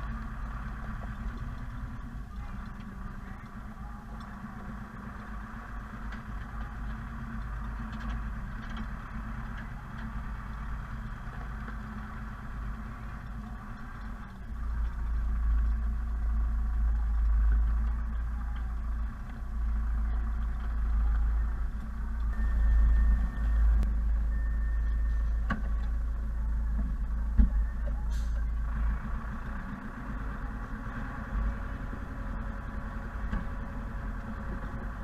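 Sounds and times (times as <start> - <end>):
deep low rumble: 0.0 - 35.0
tractor diesel engine running: 0.0 - 35.0.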